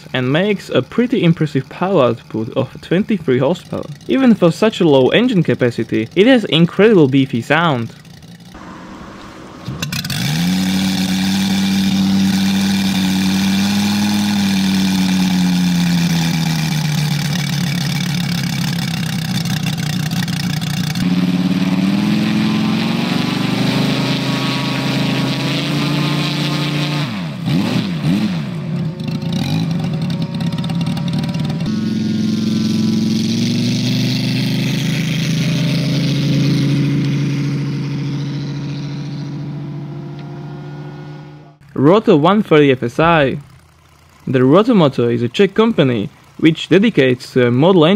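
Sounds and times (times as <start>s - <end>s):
model aircraft radial engine running: 0.0s - 27.4s, 28.5s - 39.5s, 40.1s - 47.9s
engine throttle blips: 0.0s - 47.9s.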